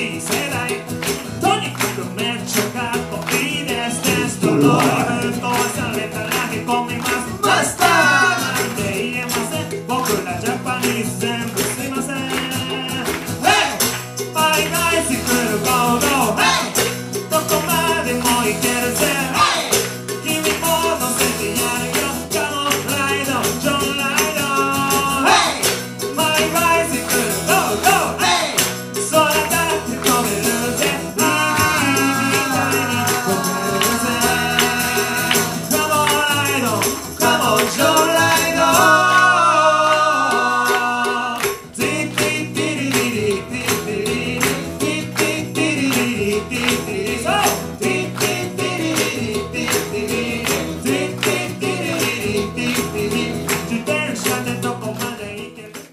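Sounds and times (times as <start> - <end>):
jingling hand percussion: 0.0 - 55.9
man singing: 0.0 - 55.9
strummed acoustic guitar: 0.0 - 55.9.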